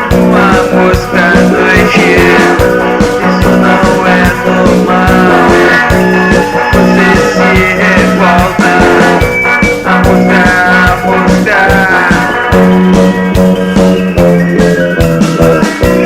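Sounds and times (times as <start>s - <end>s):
post-punk instrumental music: 0.0s - 16.0s
steady drum beat: 0.0s - 16.0s.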